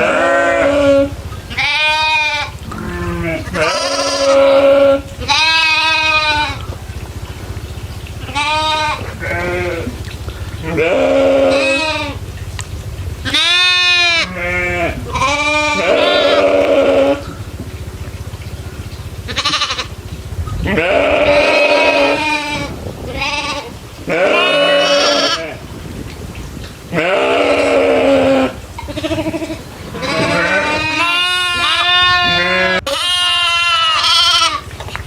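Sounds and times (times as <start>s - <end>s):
goats bleating: 0.0s - 6.9s, 8.2s - 12.3s, 13.2s - 17.5s, 19.1s - 20.0s, 20.6s - 25.7s, 26.9s - 34.8s.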